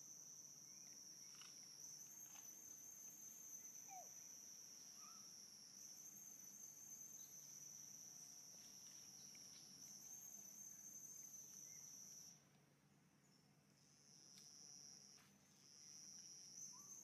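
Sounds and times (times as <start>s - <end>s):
high-pitched insect chorus: 0.0s - 12.4s, 13.3s - 17.0s.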